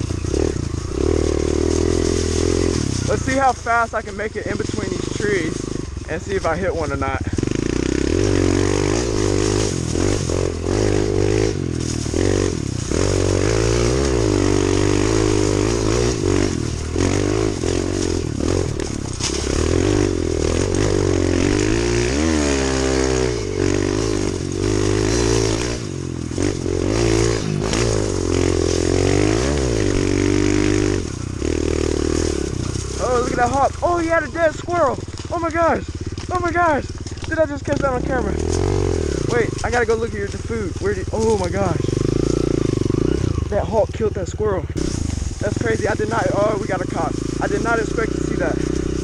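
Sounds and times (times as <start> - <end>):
motorbike engine revving: 0.0 - 49.0.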